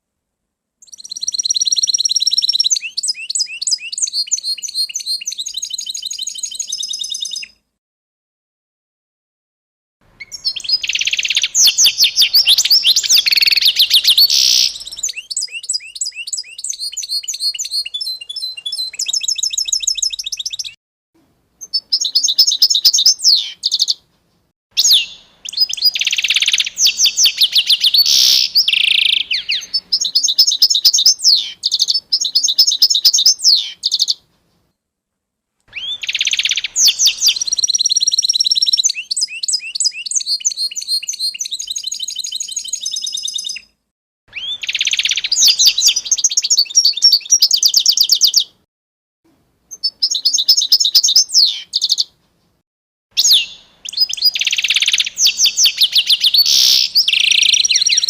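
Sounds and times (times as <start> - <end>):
songbirds trilling and chirping: 0.8 - 7.6, 10.1 - 20.8, 21.6 - 24.0, 24.8 - 34.2, 35.7 - 43.7, 44.3 - 48.6, 49.7 - 52.2, 53.2 - 58.0.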